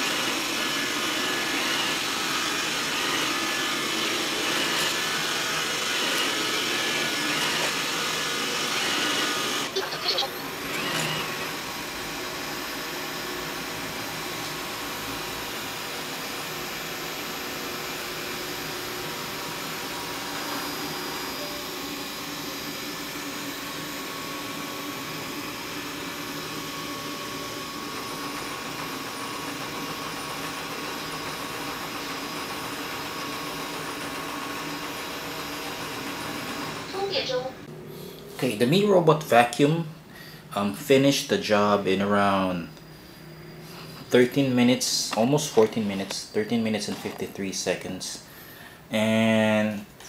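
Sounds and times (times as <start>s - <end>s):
robot vacuum cleaner whirring: 0.0s - 38.6s, 43.3s - 47.9s.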